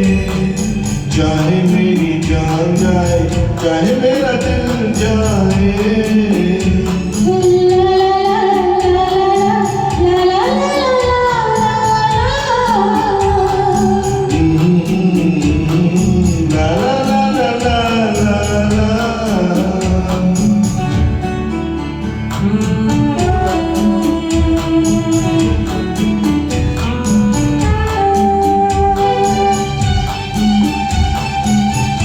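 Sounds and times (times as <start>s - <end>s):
gliding melody over a steady beat: 0.0s - 32.0s.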